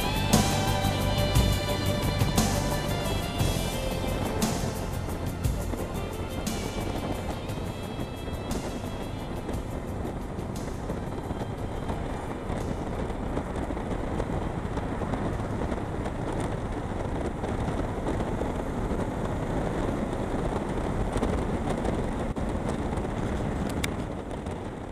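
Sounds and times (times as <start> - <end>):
motorcycle engine: 0.0 - 24.9
road noise: 0.0 - 24.9
wind over microphone: 0.0 - 24.9.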